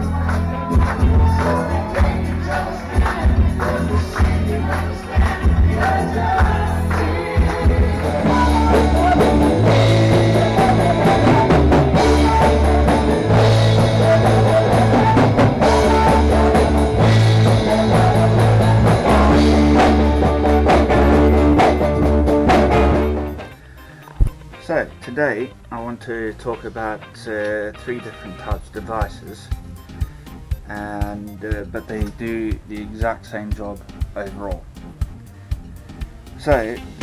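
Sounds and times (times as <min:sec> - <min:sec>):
rock music with singing: 0:00.0 - 0:37.0.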